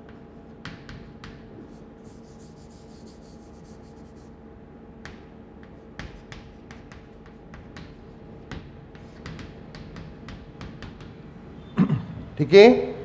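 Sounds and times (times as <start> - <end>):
chalk scratching on chalkboard: 0.0 - 4.4, 5.0 - 11.1
chalk tapping on board: 0.0 - 4.4, 5.0 - 11.2
faint steady hum: 0.0 - 13.0.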